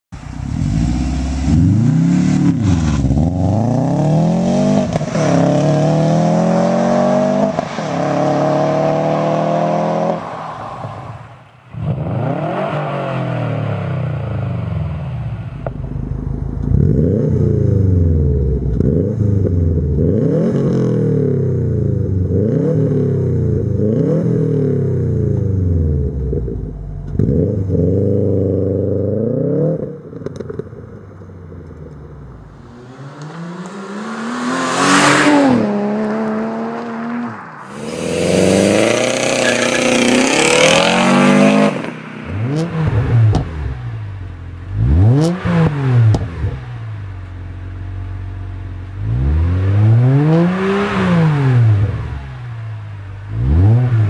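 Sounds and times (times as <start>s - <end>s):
car engine accelerating: 0.2s - 54.0s
car engine revving: 0.2s - 54.0s.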